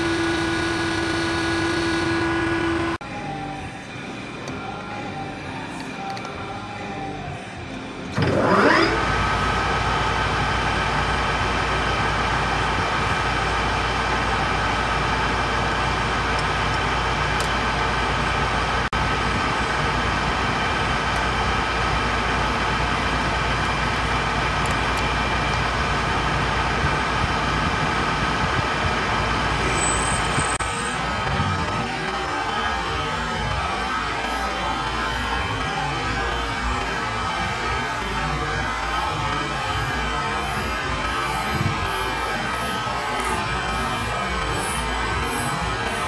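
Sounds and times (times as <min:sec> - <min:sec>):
lathe spindle whine: 0:00.0 - 0:46.0.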